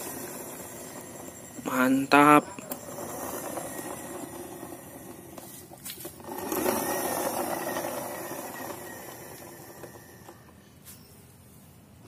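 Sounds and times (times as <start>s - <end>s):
toy bus whirring on concrete: 0.0s - 12.0s.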